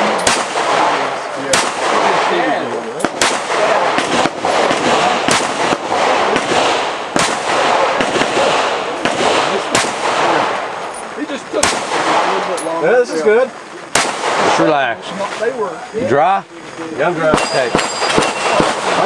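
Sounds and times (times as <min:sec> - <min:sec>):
pistol shots: 0:00.0 - 0:12.7, 0:13.9 - 0:14.9, 0:17.2 - 0:19.0
background hiss: 0:00.0 - 0:19.0.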